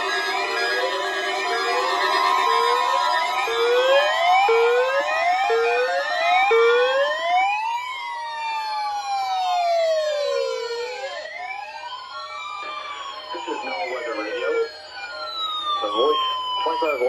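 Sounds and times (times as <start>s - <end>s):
siren rising whoop: 0.0s - 17.0s
siren wailing up and down: 0.0s - 17.0s.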